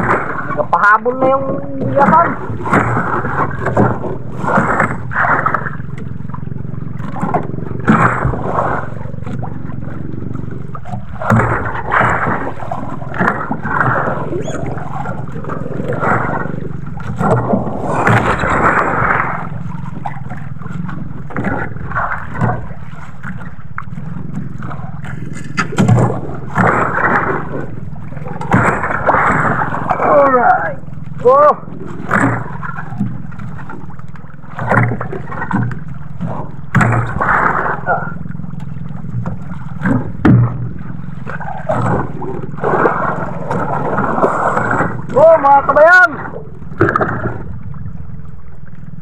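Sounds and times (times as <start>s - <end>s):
boat engine running: 0.0s - 49.0s
water splashing against hull: 0.0s - 49.0s.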